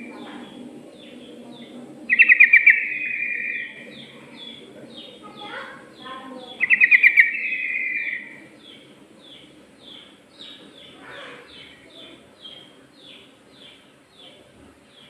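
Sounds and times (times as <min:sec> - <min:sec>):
bird down-slurred chirps: 0:00.0 - 0:14.4.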